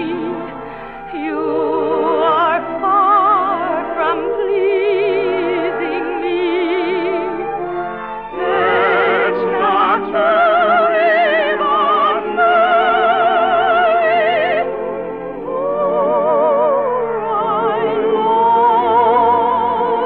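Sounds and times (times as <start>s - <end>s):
operatic singing with vibrato: 0.0s - 20.0s
orchestral accompaniment: 0.0s - 20.0s.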